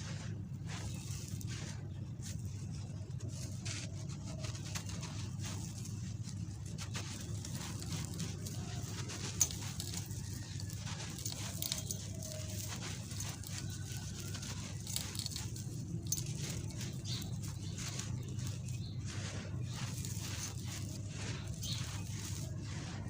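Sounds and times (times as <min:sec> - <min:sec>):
gritty crunching of crumbling cement: 0:00.0 - 0:23.0
steady low hum: 0:00.0 - 0:23.0.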